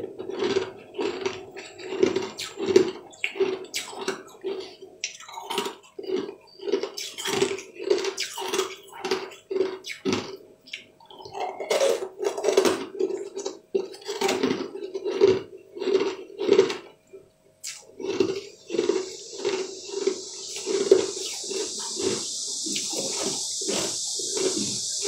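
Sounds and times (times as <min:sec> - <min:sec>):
chewing crunchy candy: 0:00.0 - 0:25.0.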